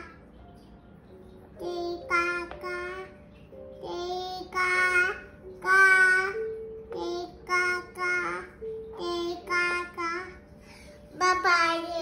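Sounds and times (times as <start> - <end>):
toddler singing wordless tune: 0.0 - 0.5, 1.1 - 12.0.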